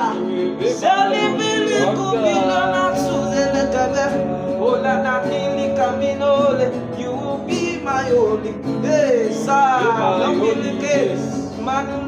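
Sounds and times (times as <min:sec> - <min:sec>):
instrumental backing: 0:00.0 - 0:12.0
singer vocalising without words: 0:00.0 - 0:12.0.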